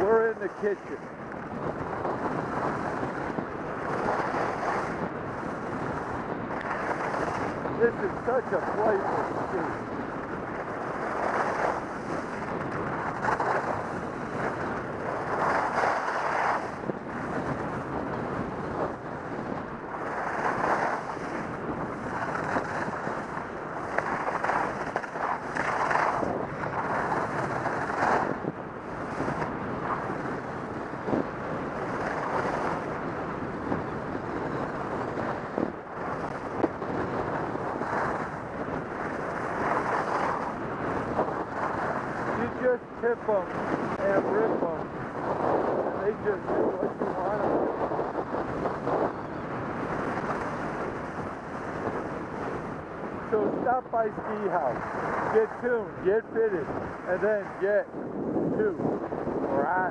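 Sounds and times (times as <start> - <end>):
skis scraping on hard snow: 0.0 - 30.4, 31.1 - 33.0, 35.3 - 38.4, 39.0 - 49.1, 49.8 - 52.6, 53.3 - 57.6
wind rushing over microphone: 0.0 - 59.9.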